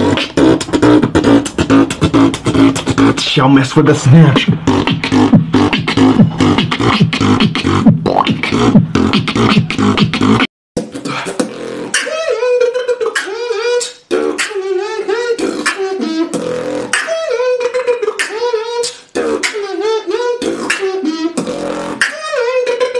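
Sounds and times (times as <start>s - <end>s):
beatboxing: 0.0s - 22.9s
wavering vocal melody: 0.0s - 22.9s.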